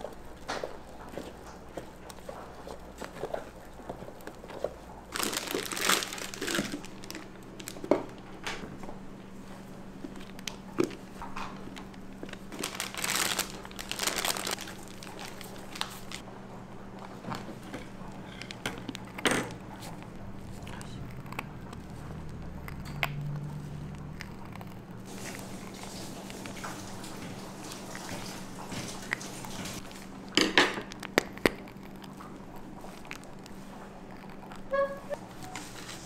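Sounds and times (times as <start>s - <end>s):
food packaging crinkling: 0.0s - 16.2s, 17.0s - 36.0s
steady low hum: 0.0s - 36.0s.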